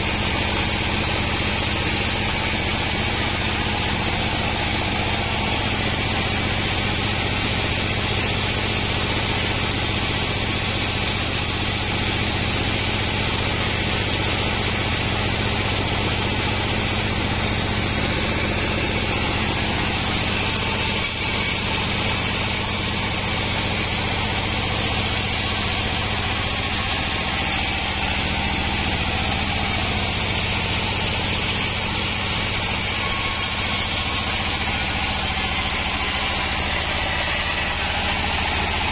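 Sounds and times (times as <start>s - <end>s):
band saw running: 0.0s - 38.9s.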